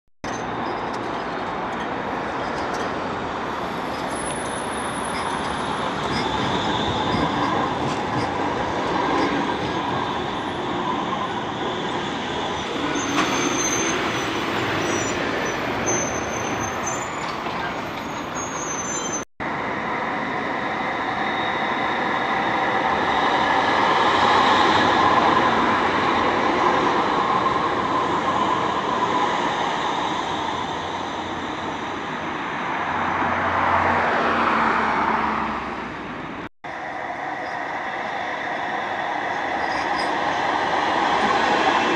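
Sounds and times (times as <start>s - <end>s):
trams rolling past: 0.3s - 41.9s.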